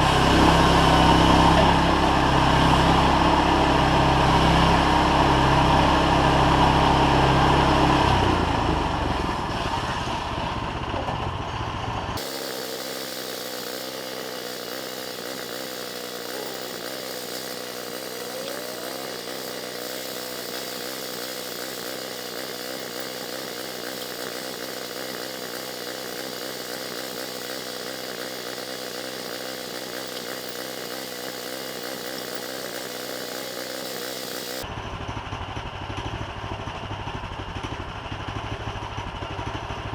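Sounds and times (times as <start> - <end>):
gasoline engine droning: 0.0 - 39.9.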